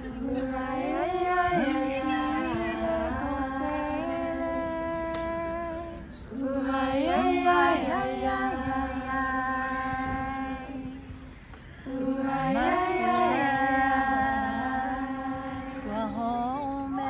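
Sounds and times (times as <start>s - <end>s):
women singing unaccompanied chant: 0.0s - 17.0s.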